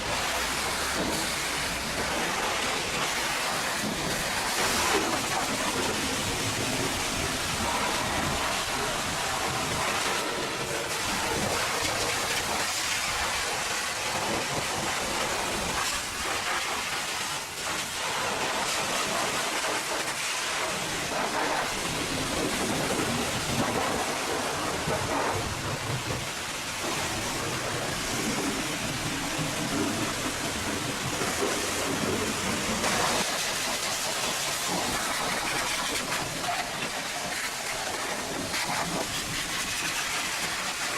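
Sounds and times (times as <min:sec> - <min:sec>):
water spray hissing on truck: 0:00.0 - 0:40.9.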